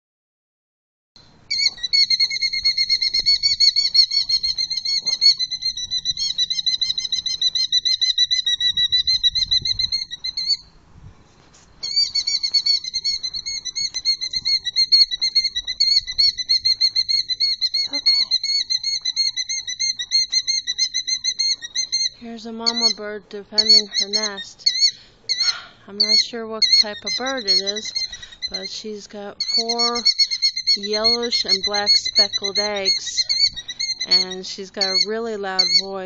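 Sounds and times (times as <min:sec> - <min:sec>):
bird trilling alarm call: 0:01.2 - 0:10.8, 0:11.8 - 0:36.0.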